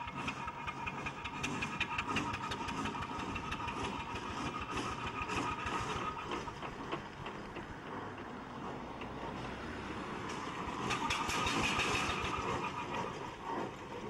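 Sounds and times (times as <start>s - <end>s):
steam roller mechanical clatter: 0.0s - 14.0s.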